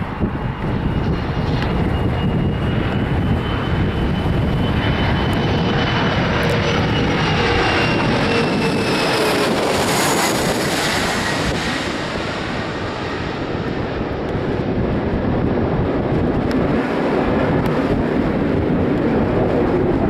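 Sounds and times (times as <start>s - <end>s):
jet passing overhead: 0.0s - 20.0s.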